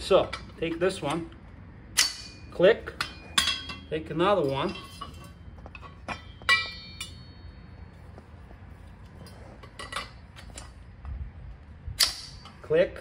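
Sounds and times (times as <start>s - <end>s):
metal rails clanking: 0.0s - 11.1s, 11.8s - 13.0s.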